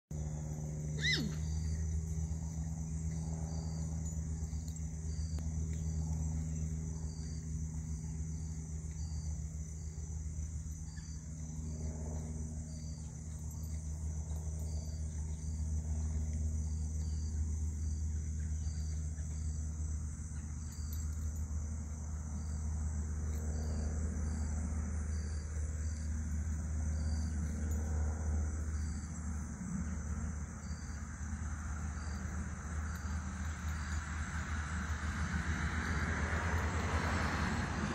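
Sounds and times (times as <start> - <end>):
insects chirping: 0.2 - 37.9.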